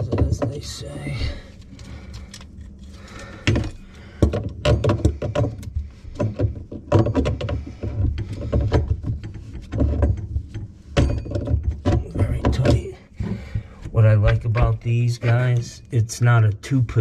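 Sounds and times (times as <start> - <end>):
pipes thumping: 0.0 - 2.4, 3.0 - 15.8.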